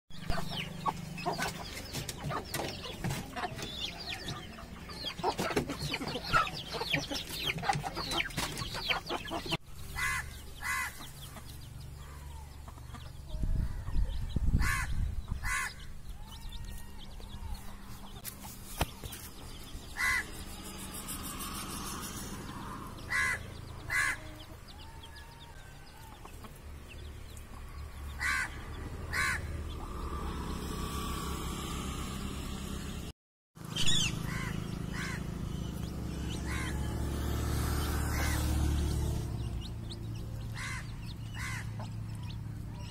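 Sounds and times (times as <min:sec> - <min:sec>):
harsh bird calls: 0:00.1 - 0:32.9, 0:33.6 - 0:42.9.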